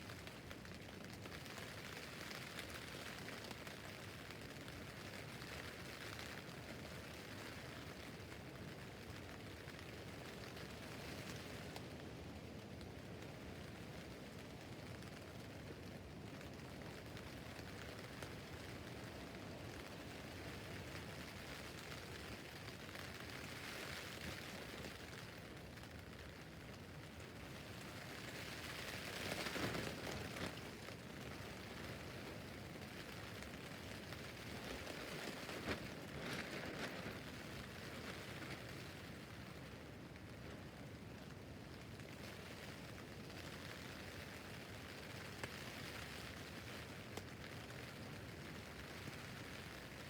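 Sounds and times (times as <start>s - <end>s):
rain on a tent roof: 0.0s - 50.0s.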